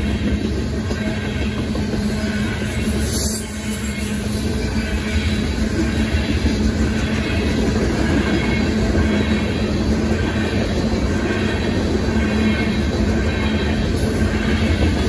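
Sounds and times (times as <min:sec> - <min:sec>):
freight train rolling past: 0:00.0 - 0:15.0
steel wheels clattering on track: 0:00.0 - 0:15.0.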